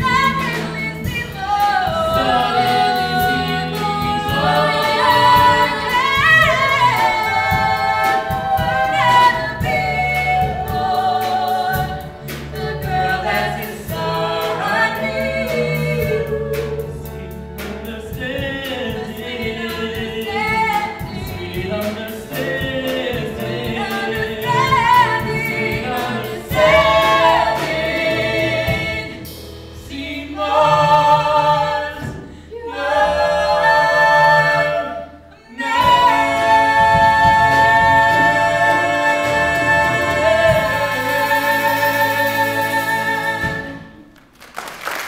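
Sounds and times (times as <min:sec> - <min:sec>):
two voices singing a duet: 0:00.0 - 0:44.1
musical accompaniment: 0:00.0 - 0:45.0.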